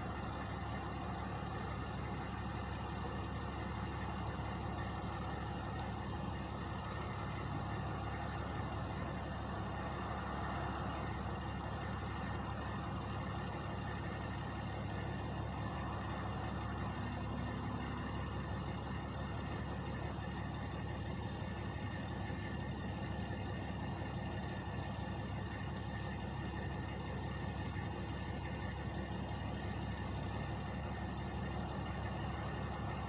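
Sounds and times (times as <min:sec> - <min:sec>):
truck engines idling: 0:00.0 - 0:33.0.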